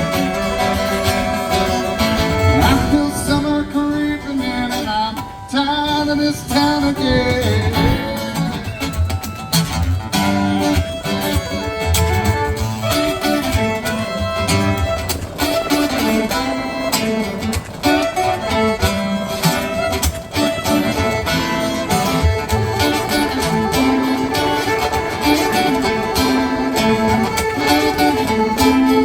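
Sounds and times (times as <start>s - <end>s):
fiddle melody: 0.0s - 29.0s
guitar: 0.0s - 29.0s.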